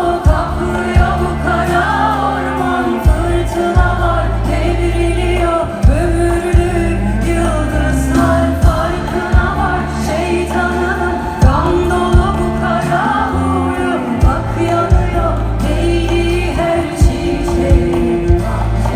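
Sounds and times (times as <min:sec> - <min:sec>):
live pop band: 0:00.0 - 0:18.9
person singing: 0:00.0 - 0:18.9.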